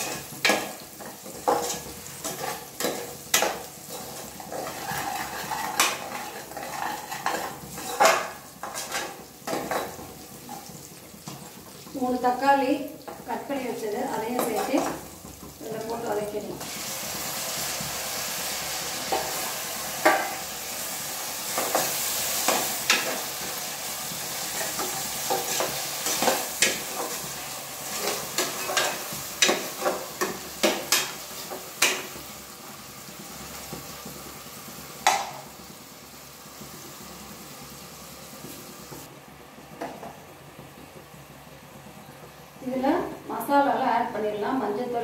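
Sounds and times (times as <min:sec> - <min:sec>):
tomatoes sizzling in oil: 0:00.0 - 0:45.0.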